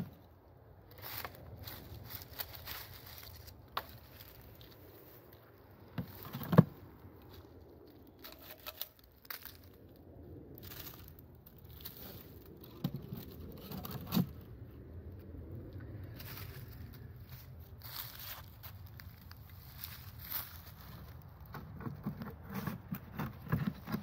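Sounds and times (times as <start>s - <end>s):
dry comb crackling and scraping: 0.9s - 15.2s, 15.8s - 24.0s.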